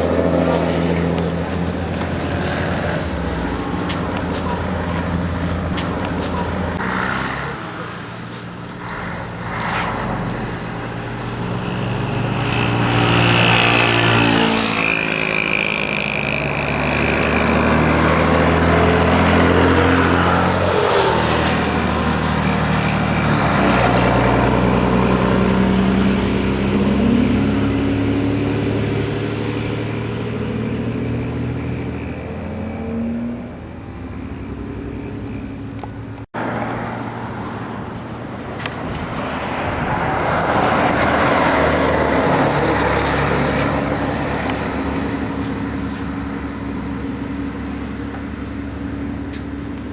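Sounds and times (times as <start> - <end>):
bus passing: 0.0 - 49.9
diesel bus engine driving past: 0.0 - 49.9.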